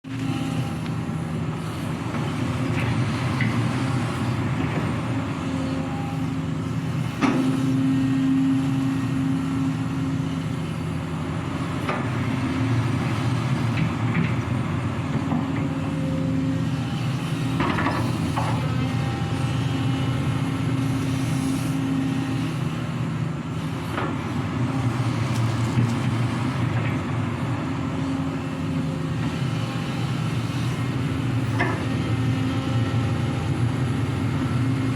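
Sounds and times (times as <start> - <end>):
excavator diesel engine: 0.1 - 34.9.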